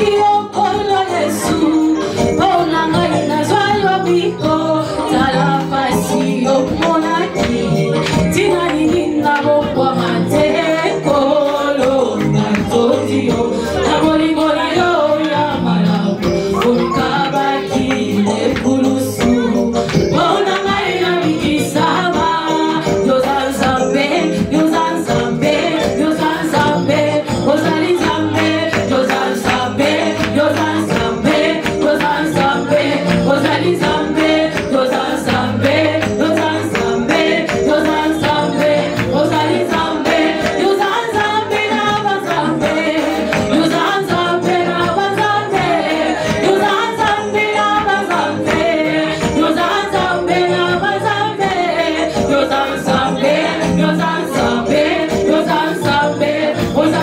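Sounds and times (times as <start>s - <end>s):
voices singing over a band: 0.0s - 57.0s.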